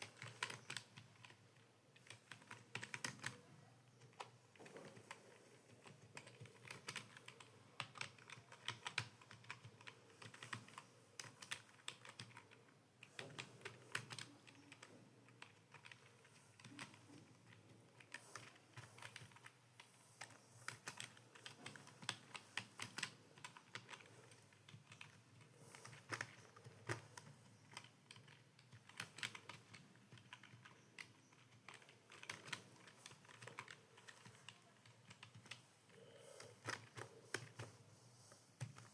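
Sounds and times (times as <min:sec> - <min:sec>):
computer keyboard typing: 0:00.0 - 0:37.8.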